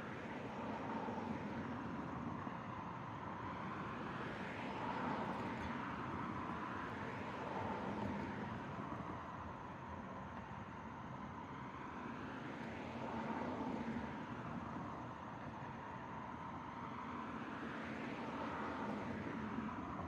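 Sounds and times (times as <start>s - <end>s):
faint steady tone: 0.0s - 20.0s
vehicles passing on road: 0.0s - 20.0s.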